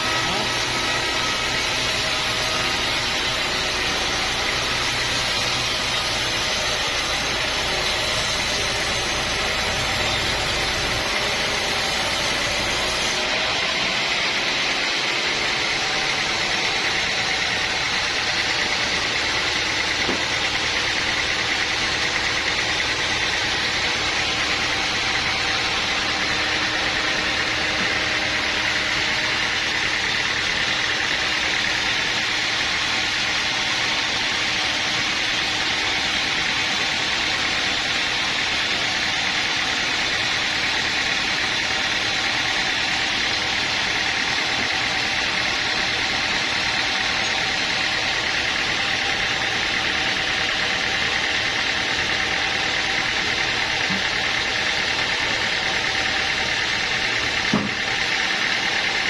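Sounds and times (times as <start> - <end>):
sawmill machinery drone: 0.0 - 59.0.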